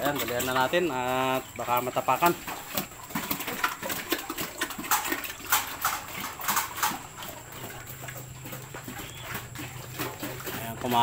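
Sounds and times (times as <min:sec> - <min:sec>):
pig chomping food: 0:00.0 - 0:11.0.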